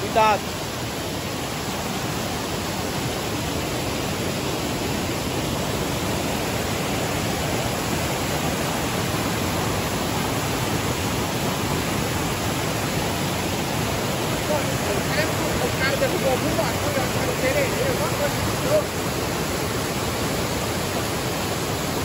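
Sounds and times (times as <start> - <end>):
waterfall pouring over rocks: 0.0 - 22.0.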